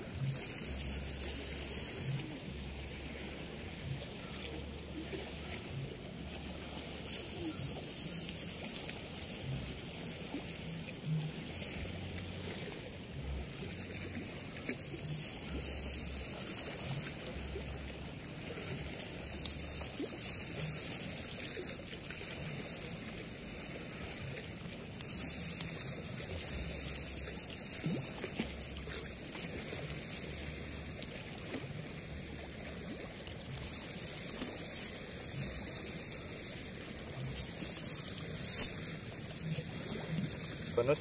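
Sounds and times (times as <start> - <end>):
net rustling and ticking: 0.0 - 3.3, 3.9 - 41.0
water rushing over weir: 0.0 - 41.0.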